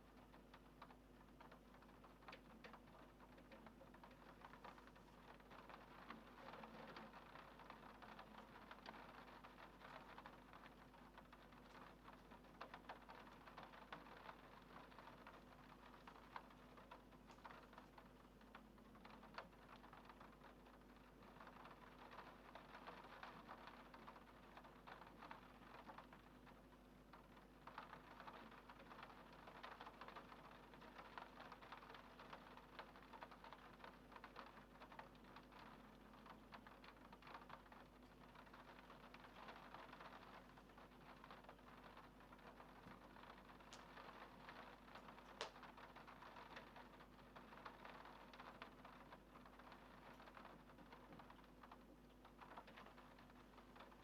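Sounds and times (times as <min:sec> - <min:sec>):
faint steady hum: 0:00.0 - 0:54.0
rain on a window: 0:00.0 - 0:54.0.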